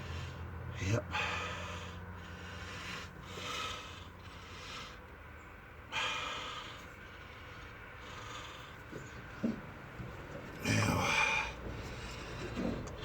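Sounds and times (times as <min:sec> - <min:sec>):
man breathing heavily: 0:00.0 - 0:09.8, 0:10.5 - 0:13.0.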